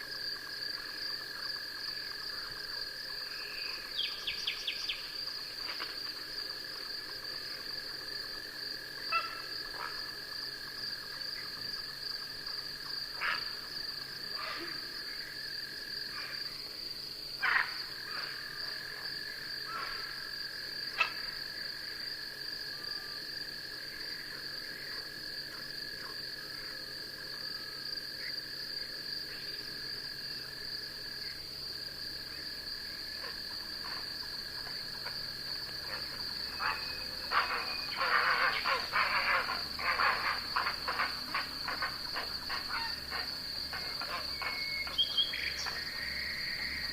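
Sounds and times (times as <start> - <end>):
high insect trill: 0.0 - 46.9
lower insect trill: 0.0 - 46.9.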